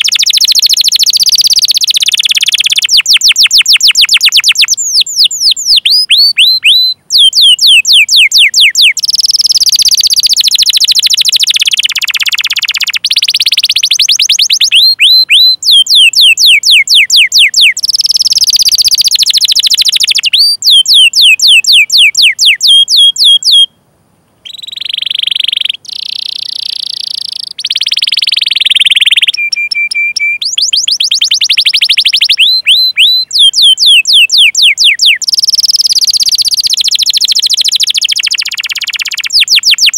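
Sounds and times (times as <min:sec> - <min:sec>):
canary singing chirps and trills: 0:00.0 - 0:23.8, 0:24.4 - 0:39.9.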